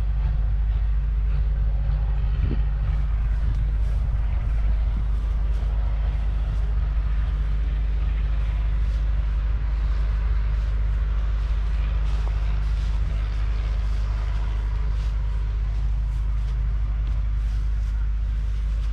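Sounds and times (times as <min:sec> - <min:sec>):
tractor diesel engine idling: 0:00.0 - 0:18.9.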